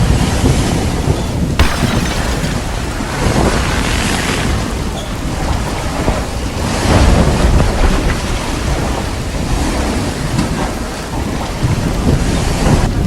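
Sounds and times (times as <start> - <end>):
rain: 1.1 - 13.0
wind gusts buffeting microphone: 2.4 - 13.0.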